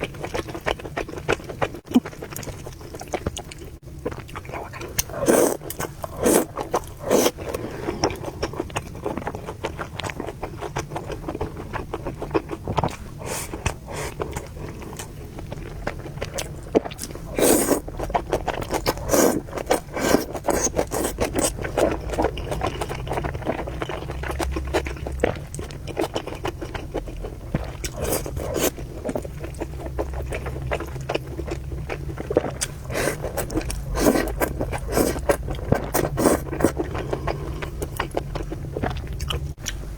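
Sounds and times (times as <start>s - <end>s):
slurping and chewing noodles: 0.0s - 39.6s.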